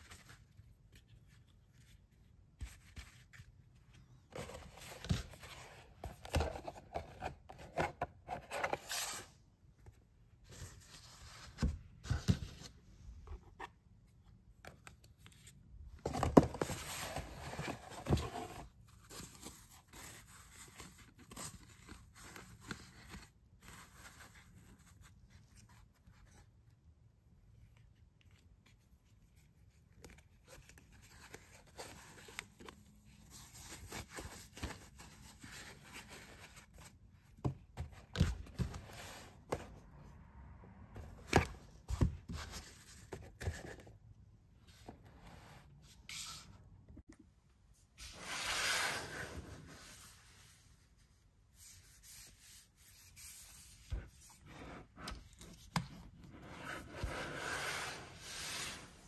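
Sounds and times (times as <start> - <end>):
rustles and scrapes of handling: 0.0 - 47.0, 47.6 - 59.0.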